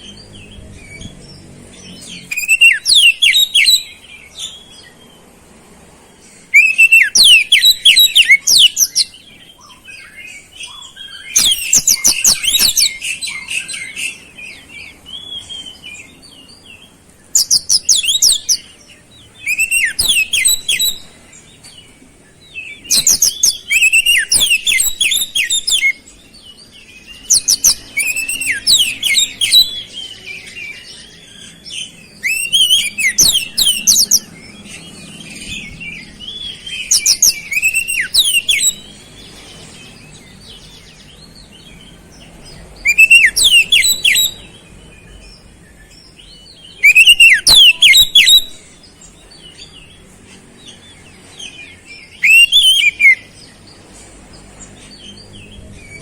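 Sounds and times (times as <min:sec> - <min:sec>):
magpie-robin singing: 0:00.0 - 0:05.4, 0:06.0 - 0:56.0.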